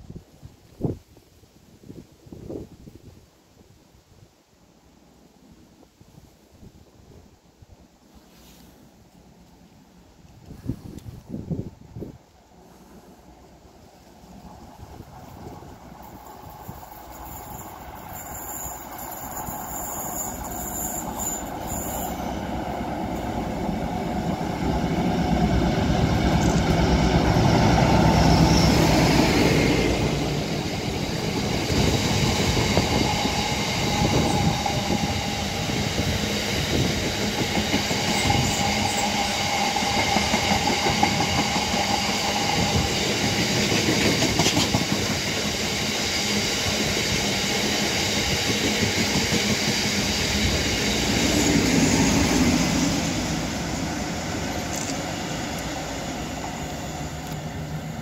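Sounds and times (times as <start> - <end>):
diesel locomotive passing under power: 9.0 - 58.0.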